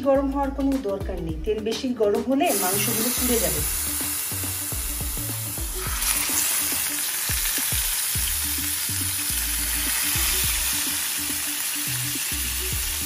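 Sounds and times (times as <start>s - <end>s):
chicken sizzling in frying pan: 2.5s - 13.0s.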